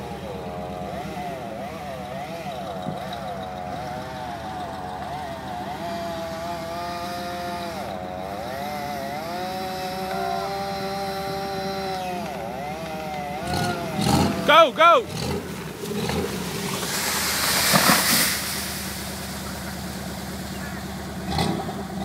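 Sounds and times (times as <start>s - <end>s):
chainsaw cutting at high revs: 0.0s - 22.0s.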